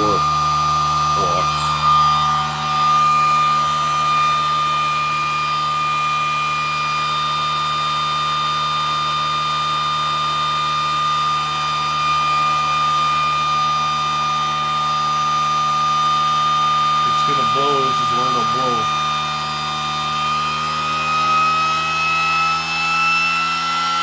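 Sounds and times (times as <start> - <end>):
motor whine over low hum: 0.0 - 24.0.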